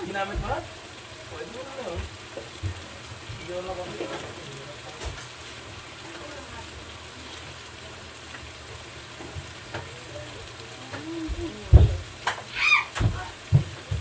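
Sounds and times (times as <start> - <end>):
shrimp sizzling in a wok: 0.0 - 14.0.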